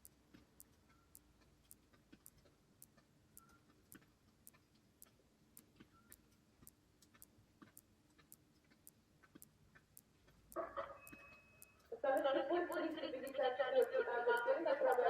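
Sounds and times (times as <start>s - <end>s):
faint even ticking: 0.0s - 15.0s.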